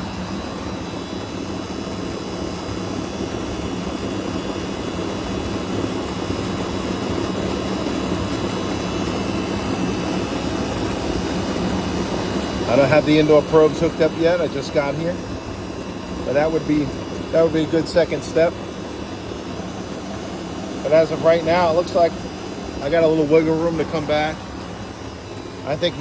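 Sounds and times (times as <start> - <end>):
compressor hum: 0.0 - 26.0
condenser fan rushing air: 0.0 - 26.0.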